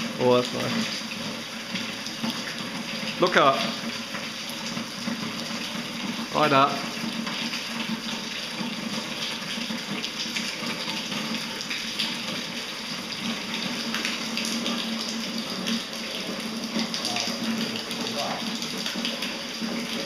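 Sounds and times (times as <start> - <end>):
water dripping and splashing on rock: 0.0 - 20.0.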